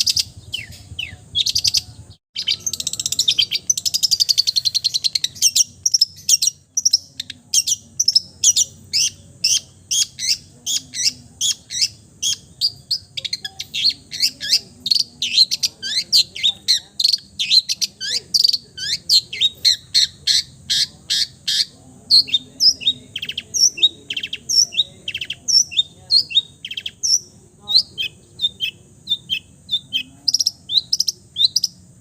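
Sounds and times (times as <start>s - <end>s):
bird singing sharp chirps: 0.0s - 31.8s.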